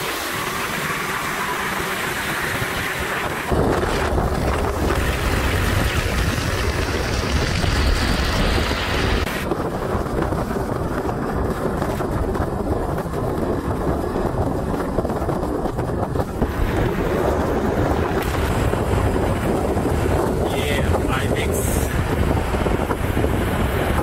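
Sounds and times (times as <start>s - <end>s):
road noise: 0.0s - 24.0s
wind rushing over microphone: 0.0s - 24.0s.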